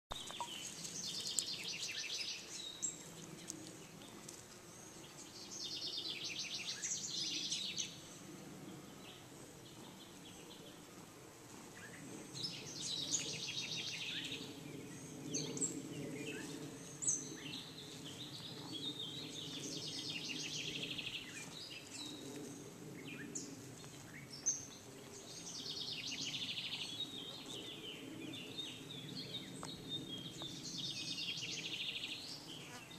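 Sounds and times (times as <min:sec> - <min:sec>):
songbirds trilling: 0:00.1 - 0:11.0, 0:11.7 - 0:32.9.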